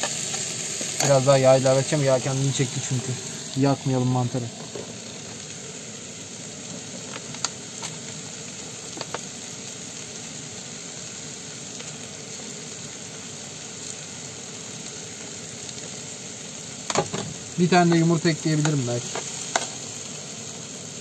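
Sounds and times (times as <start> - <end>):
mushrooms sizzling in oil: 0.0 - 21.0.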